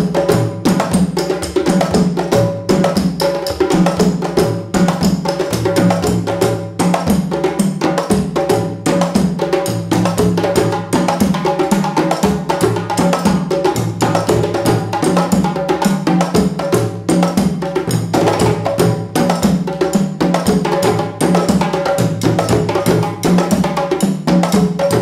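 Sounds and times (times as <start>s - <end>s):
fast busy percussion rhythm: 0.0s - 25.0s.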